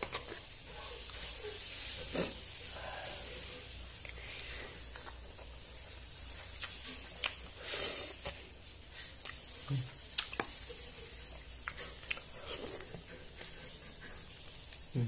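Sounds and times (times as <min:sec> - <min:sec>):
person chewing: 0:00.0 - 0:05.7, 0:06.3 - 0:15.0.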